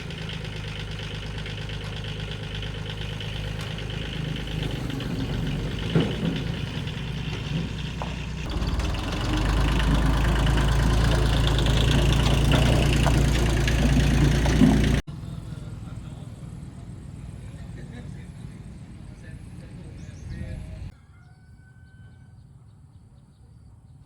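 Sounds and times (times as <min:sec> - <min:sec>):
old car engine running: 0:00.0 - 0:20.9.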